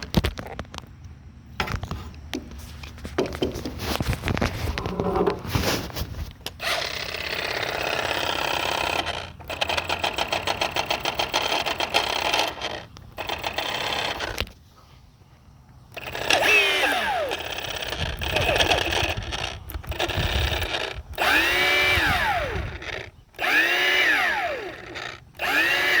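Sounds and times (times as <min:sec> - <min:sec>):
power tool motor rattling: 0:02.7 - 0:14.6, 0:15.7 - 0:26.0.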